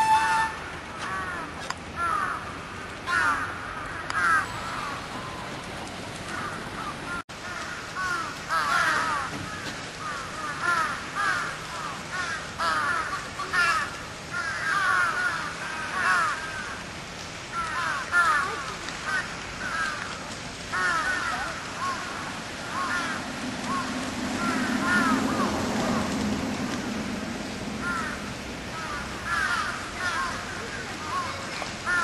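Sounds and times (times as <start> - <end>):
crows cawing: 1.0 - 2.5, 3.1 - 5.0, 6.3 - 26.2, 27.7 - 32.0.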